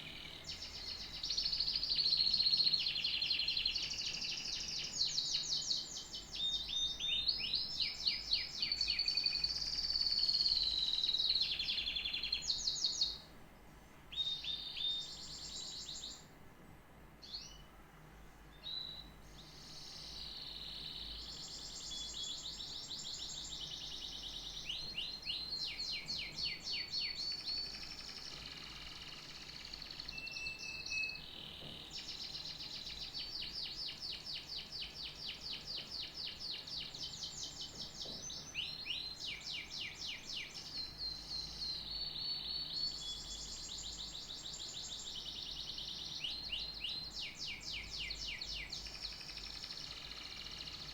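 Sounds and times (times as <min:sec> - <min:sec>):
canary singing high trills: 0:00.0 - 0:13.3, 0:14.1 - 0:16.3, 0:18.5 - 0:50.9.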